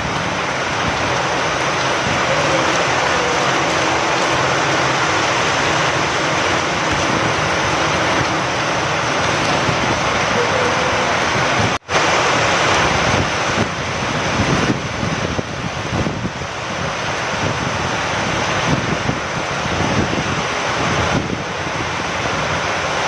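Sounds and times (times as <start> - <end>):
heavy rain falling: 0.0 - 23.0
wind: 0.0 - 23.0.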